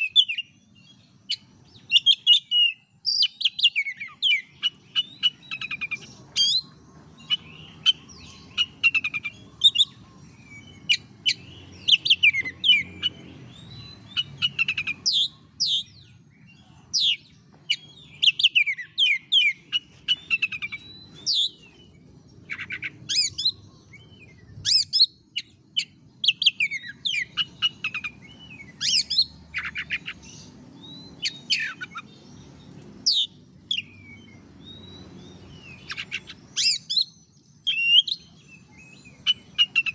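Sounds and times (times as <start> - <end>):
bird singing whistled song: 0.0 - 39.9.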